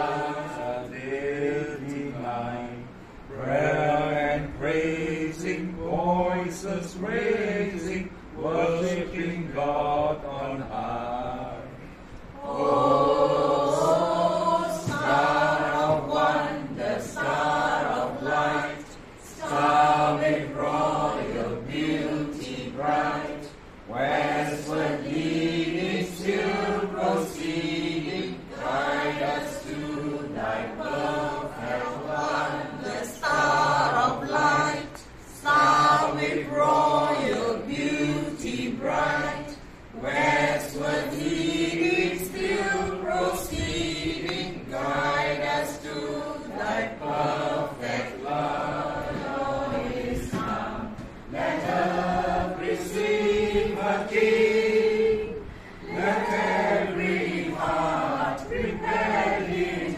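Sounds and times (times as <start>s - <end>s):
group singing a carol: 0.0s - 59.9s.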